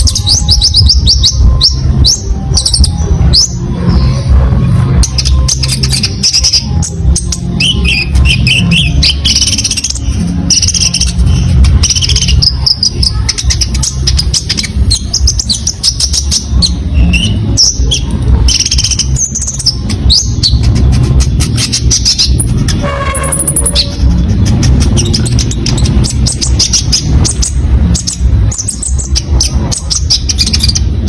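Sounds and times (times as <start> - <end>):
songbird singing chirps and trills: 0.0 - 31.0
steady low rumble: 0.0 - 31.0.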